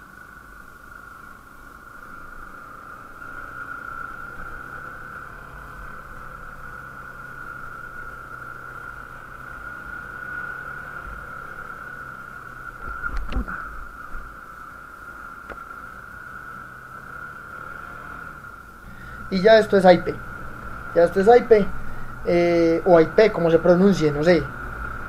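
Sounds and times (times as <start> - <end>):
high-pitched whine: 0.0 - 25.0
motorcycle engine running low: 0.0 - 25.0.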